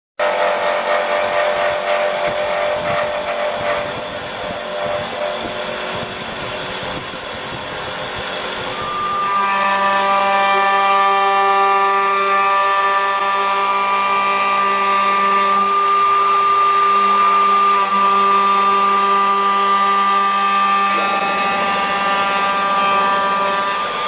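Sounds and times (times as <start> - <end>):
lathe tool shaving wood: 0.2 - 24.0
router spindle whine: 0.2 - 24.0.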